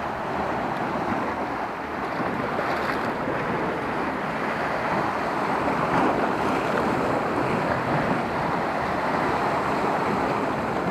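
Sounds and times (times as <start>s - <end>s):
sea surf washing against rocks: 0.0s - 10.9s.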